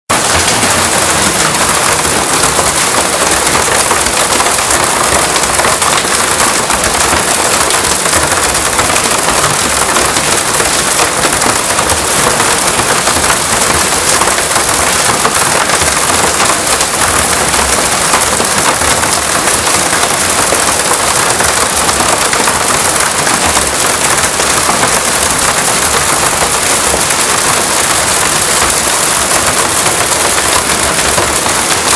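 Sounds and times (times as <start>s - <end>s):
hail and heavy rain pelting: 0.1s - 31.9s.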